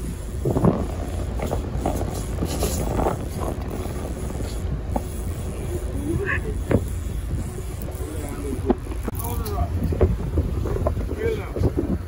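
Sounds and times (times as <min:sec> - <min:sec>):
boat engine: 0:00.0 - 0:12.0
wind: 0:00.0 - 0:12.0.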